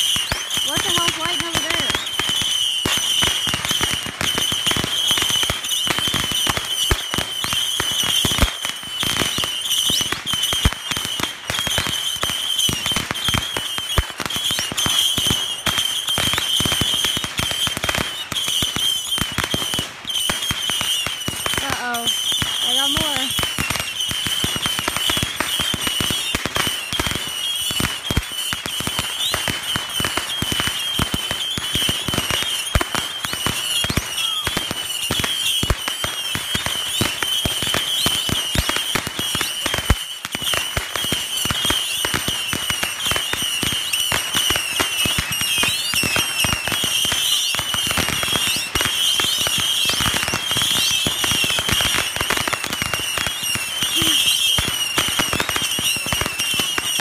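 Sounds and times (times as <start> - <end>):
firecrackers popping: 0.0 - 57.0.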